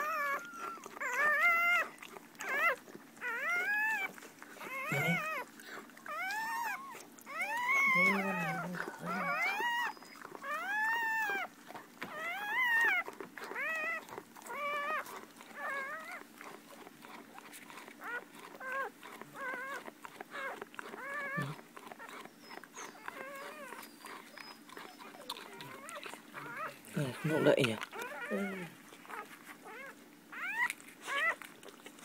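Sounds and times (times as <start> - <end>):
puppies squealing: 0.0 - 32.0.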